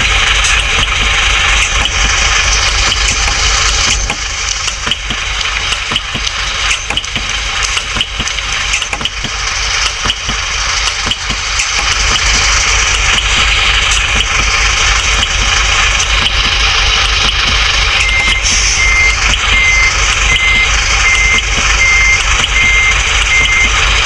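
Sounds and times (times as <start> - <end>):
clicks and rattles: 0.0 - 24.0
vehicle engine running: 0.0 - 24.0.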